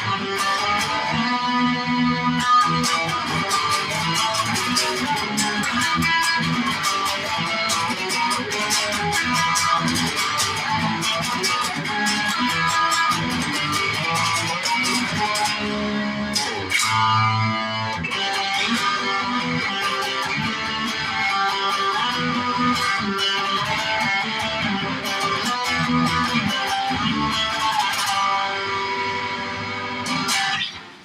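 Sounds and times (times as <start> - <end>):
rock music: 0.0 - 31.0.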